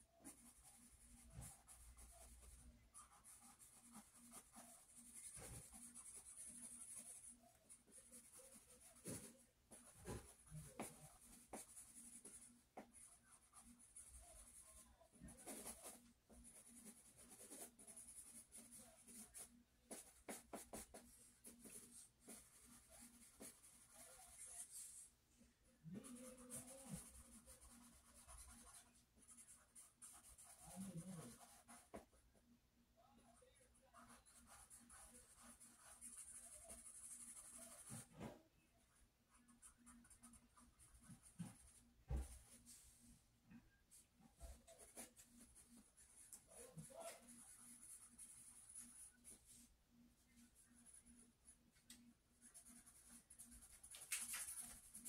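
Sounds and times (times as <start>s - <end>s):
pencil scratching on paper: 0.0s - 25.2s, 25.9s - 32.2s, 33.2s - 43.0s, 44.0s - 55.0s.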